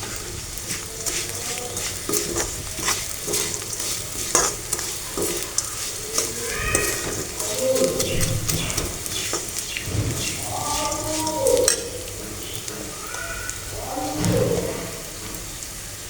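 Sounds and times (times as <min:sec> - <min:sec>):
spoon scraping a pan: 0:00.0 - 0:15.4
food sizzling in a pan: 0:00.0 - 0:16.0.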